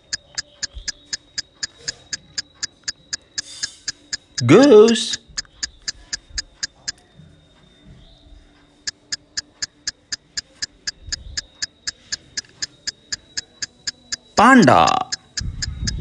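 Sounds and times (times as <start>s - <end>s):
clock-like ticking: 0.0s - 7.5s, 8.7s - 16.0s.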